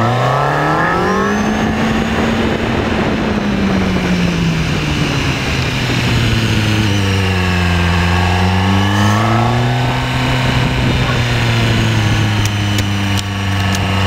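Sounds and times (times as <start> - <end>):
car engine running under load: 0.0 - 14.0
road noise: 0.0 - 14.0
wind noise: 0.0 - 14.0.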